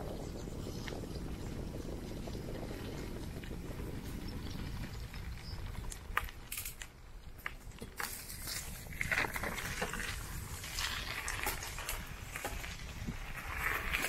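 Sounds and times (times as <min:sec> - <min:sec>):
bicycle wind and tyre rumble: 0:00.0 - 0:14.0.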